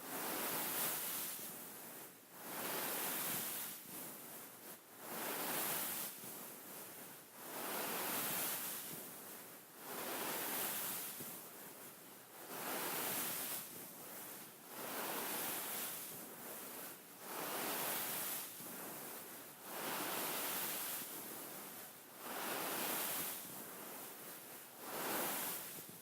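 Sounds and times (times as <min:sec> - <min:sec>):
hands rubbing beaded pillow: 0:00.0 - 0:26.0.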